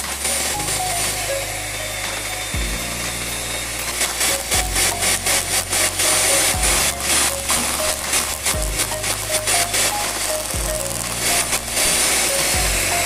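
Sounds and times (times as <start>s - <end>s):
background music: 0.0s - 13.0s
electric hand mixer whirring: 0.0s - 13.0s.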